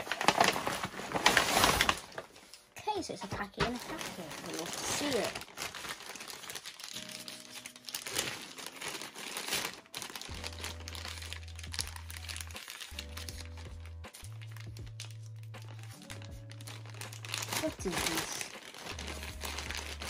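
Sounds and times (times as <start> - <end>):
plastic bag crinkling: 0.0 - 2.7, 3.3 - 20.0
background music low notes: 0.0 - 20.0.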